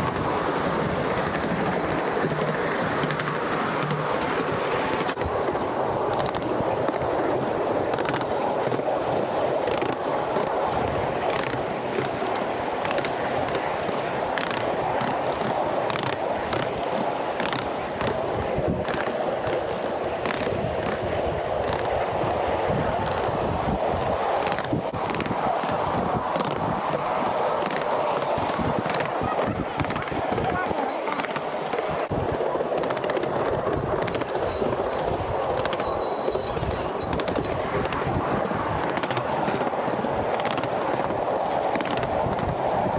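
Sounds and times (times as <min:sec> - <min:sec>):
train wheels rumbling on rail: 0:00.0 - 0:42.9
wheels clicking over rail joints: 0:00.0 - 0:42.9.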